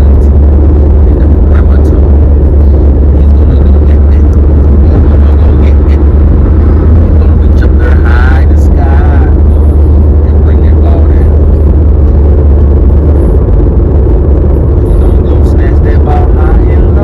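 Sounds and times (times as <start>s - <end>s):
car cabin road and engine rumble: 0.0s - 17.0s.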